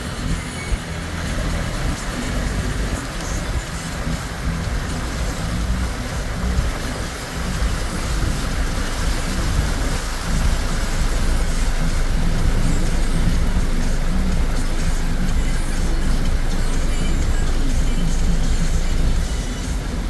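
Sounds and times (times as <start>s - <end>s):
engine and tyres on wet road: 0.0s - 20.0s
heavy rain hissing: 0.0s - 20.0s.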